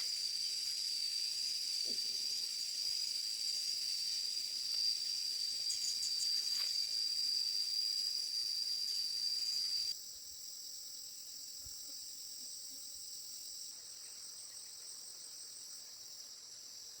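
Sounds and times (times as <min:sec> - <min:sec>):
insect chorus: 0:00.0 - 0:17.0
single insect call: 0:00.0 - 0:17.0.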